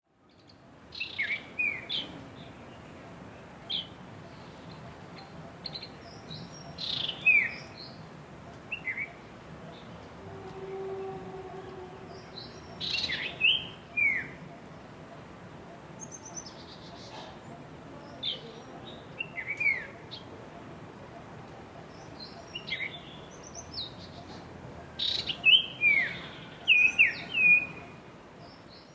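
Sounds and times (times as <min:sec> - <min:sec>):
faint background hiss: 0:00.1 - 0:28.9
birds chirping: 0:00.3 - 0:28.9.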